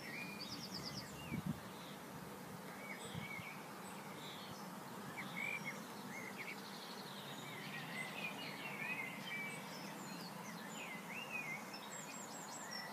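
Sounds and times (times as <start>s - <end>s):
small birds chirping and whistling: 0.0s - 2.0s, 2.7s - 12.9s
steady background hiss: 0.0s - 12.9s.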